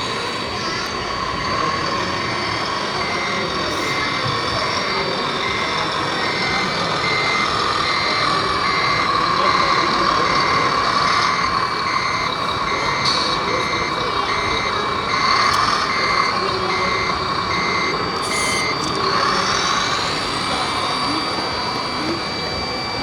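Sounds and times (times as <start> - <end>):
reverse-warning beeper: 0.0 - 23.0.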